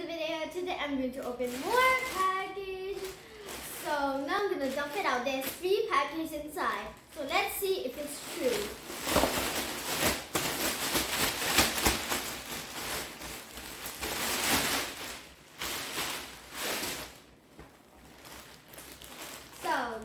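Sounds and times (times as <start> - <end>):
packaging rustling and crinkling: 1.0 - 20.0.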